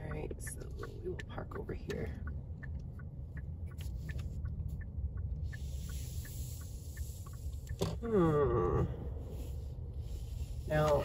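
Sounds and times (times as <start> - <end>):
car cabin rumble: 0.0 - 11.0
turn signal ticking: 0.0 - 11.0.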